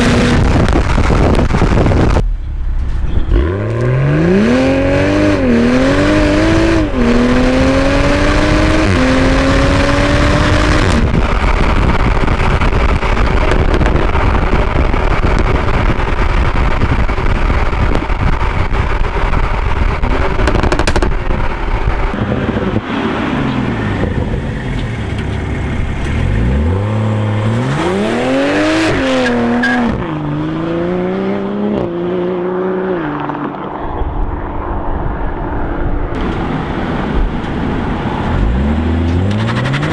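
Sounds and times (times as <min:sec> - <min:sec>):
car engine accelerating hard: 0:00.0 - 0:34.8, 0:35.4 - 0:39.9
road and wind noise: 0:00.0 - 0:39.9.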